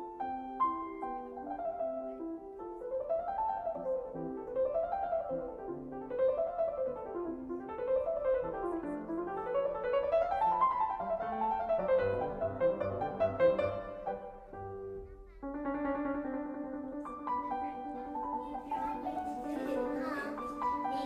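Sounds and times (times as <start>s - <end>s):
piano music with quick runs: 0.0s - 21.0s.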